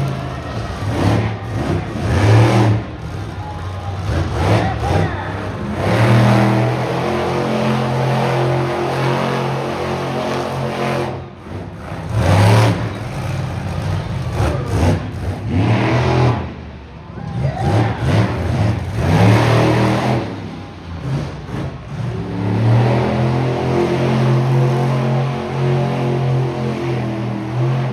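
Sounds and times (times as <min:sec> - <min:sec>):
truck engines revving: 0:00.0 - 0:27.9.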